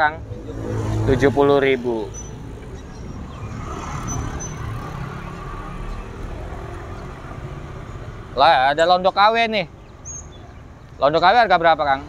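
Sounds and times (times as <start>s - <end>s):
vehicle rumbling close by: 0.0s - 12.0s.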